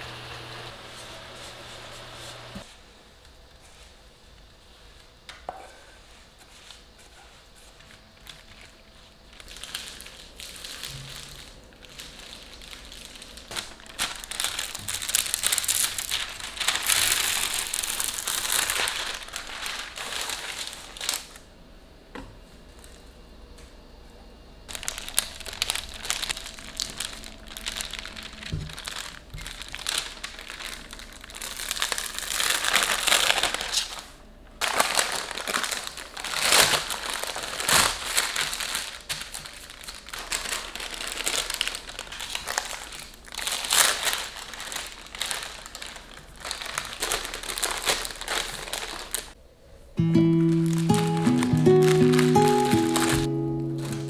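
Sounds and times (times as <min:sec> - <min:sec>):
parchment paper crinkling: 0:06.0 - 0:21.4, 0:24.7 - 0:49.4, 0:50.3 - 0:54.0.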